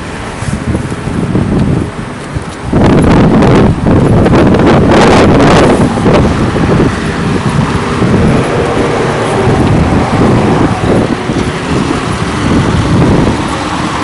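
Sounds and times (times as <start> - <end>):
road traffic passing: 0.0 - 14.0
wind on microphone: 0.0 - 14.0.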